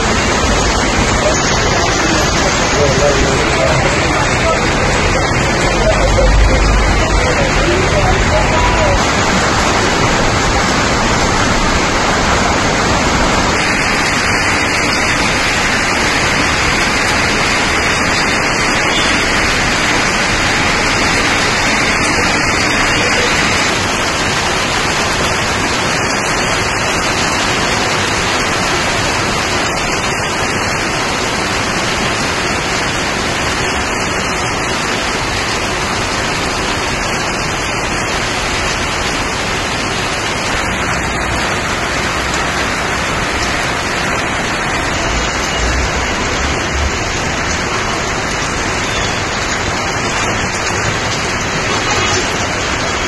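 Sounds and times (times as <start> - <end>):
heavy rain pouring: 0.0 - 53.0
water running off a metal roof: 0.0 - 53.0.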